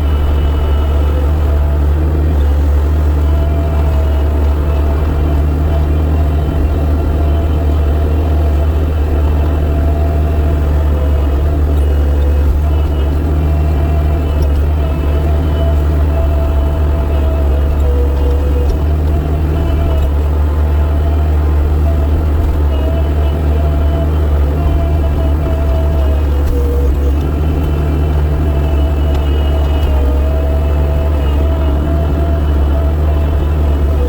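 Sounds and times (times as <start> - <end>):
engine deep constant drone: 0.0 - 34.0.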